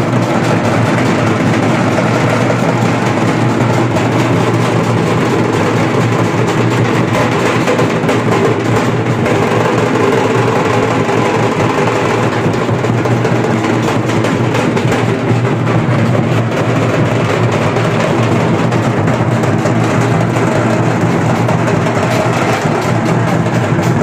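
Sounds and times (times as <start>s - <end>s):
drum ensemble playing: 0.0s - 24.0s.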